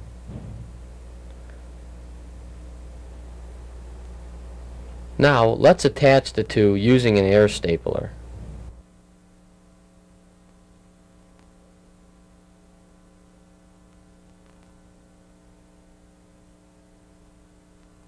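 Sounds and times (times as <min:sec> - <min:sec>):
faint mains hum: 0:00.0 - 0:18.0.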